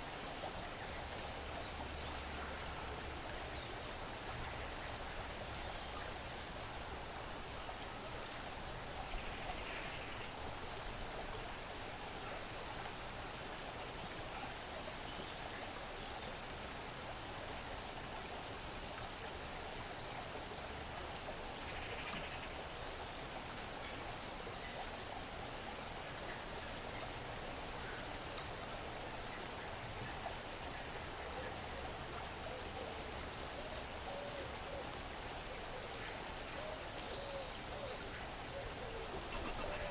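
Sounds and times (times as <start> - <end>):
hiss of distant running water: 0.0 - 39.9.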